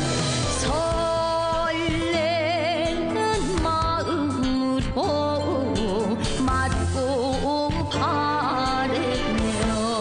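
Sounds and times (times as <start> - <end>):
instrumental backing: 0.0 - 10.0.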